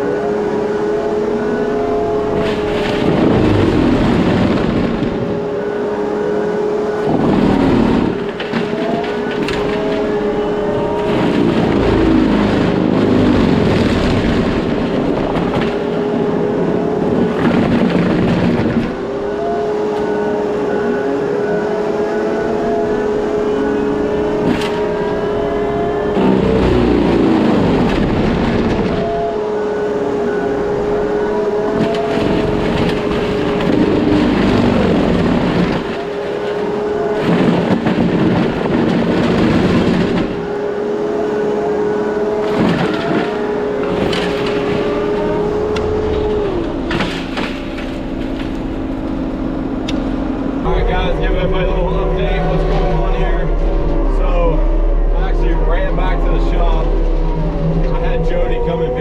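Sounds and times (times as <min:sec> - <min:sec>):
mulching drum whine: 0:00.0 - 0:59.0.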